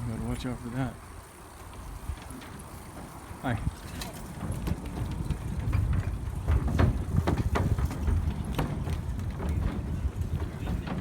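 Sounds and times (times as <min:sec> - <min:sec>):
bike clicks and rattles: 0:00.0 - 0:11.0
wind rumble on microphone: 0:00.0 - 0:11.0.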